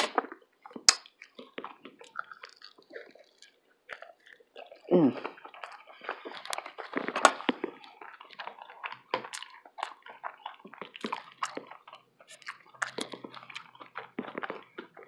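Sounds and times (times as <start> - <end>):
mouth clicks and smacks: 0.0 - 15.0
person chewing food: 0.0 - 15.0.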